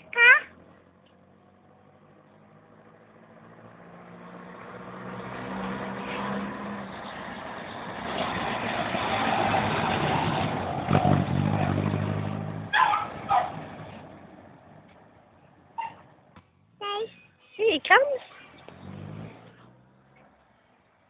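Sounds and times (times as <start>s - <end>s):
car engine pulling away: 0.4s - 16.2s, 18.2s - 20.8s.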